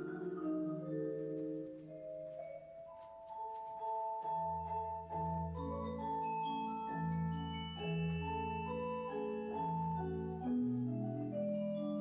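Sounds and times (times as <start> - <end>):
marimbas and vibraphones playing: 0.0 - 12.0.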